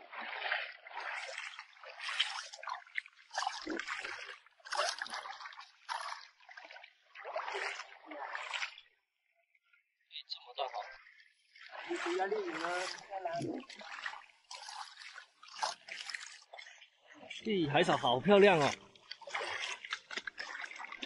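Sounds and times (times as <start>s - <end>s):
boots wading through water: 0.0s - 9.0s, 10.7s - 21.0s.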